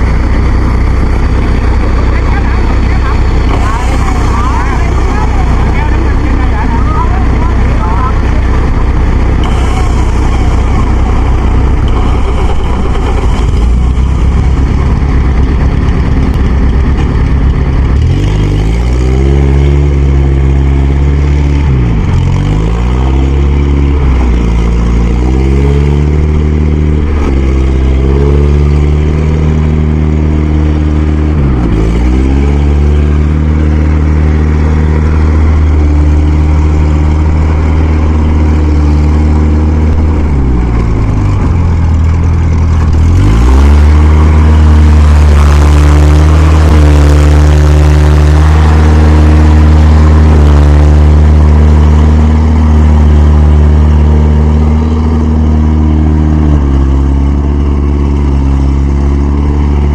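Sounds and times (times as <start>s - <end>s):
diesel engine straining: 0.0s - 59.9s.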